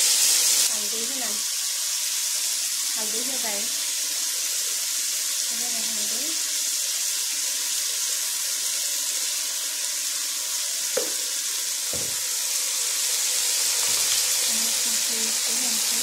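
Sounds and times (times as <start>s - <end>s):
chicken sizzling in a frying pan: 0.0s - 16.0s.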